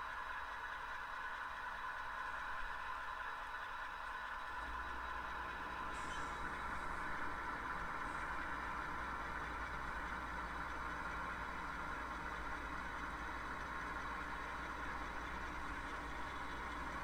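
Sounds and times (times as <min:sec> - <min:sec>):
model train wheels rolling: 0:00.1 - 0:17.0.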